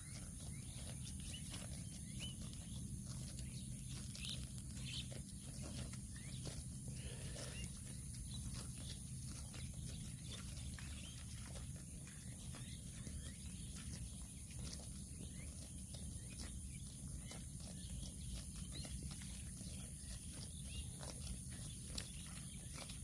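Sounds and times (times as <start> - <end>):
cattle tearing and chewing grass: 0.0 - 23.0.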